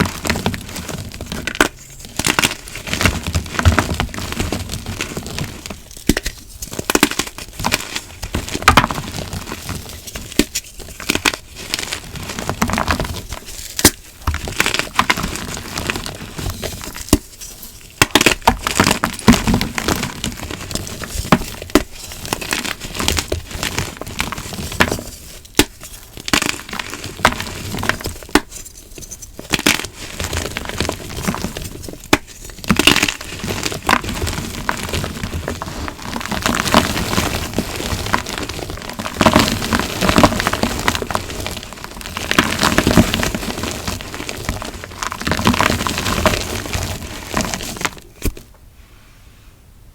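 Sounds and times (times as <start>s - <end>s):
chalk blocks crunching: 0.0s - 48.4s.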